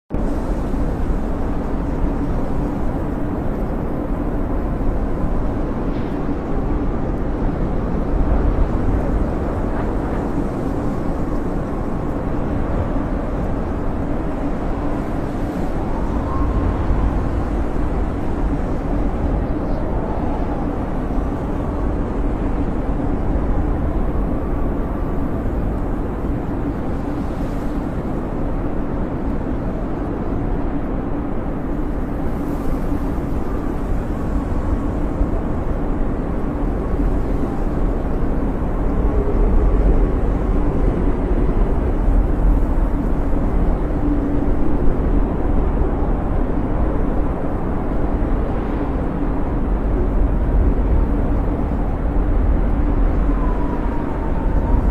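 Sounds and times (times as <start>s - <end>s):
blizzard wind howling: 0.1s - 54.9s
wind whistling: 0.1s - 54.9s.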